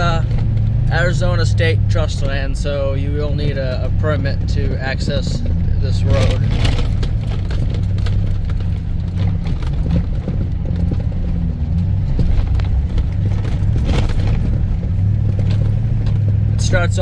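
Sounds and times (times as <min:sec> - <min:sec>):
engine and road rumble: 0:00.0 - 0:17.0
knocks and rattles: 0:00.0 - 0:17.0.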